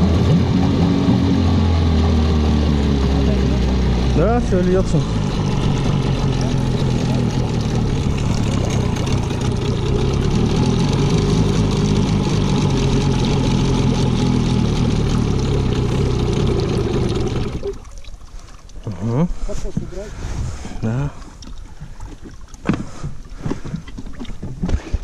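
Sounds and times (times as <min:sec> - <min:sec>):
outboard motor idling: 0:00.0 - 0:25.0.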